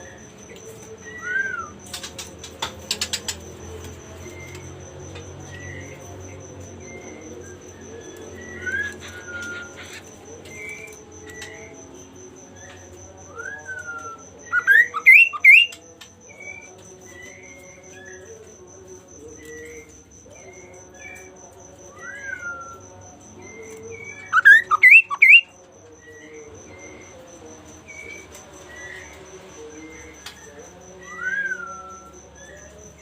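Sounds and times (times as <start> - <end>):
songbird singing: 0.0 - 33.0.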